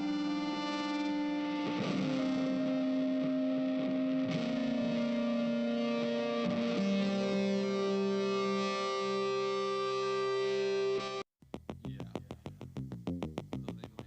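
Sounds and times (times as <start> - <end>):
music with long held notes: 0.0 - 13.8.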